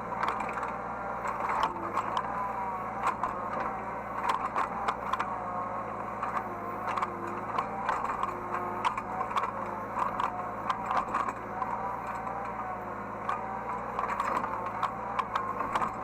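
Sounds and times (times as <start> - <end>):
excavator engine hum: 0.0 - 16.0
hydraulic whine: 0.0 - 16.0.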